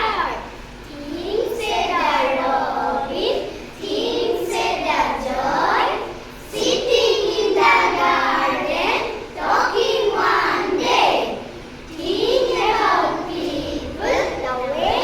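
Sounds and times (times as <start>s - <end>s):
children chanting a poem: 0.0s - 15.0s.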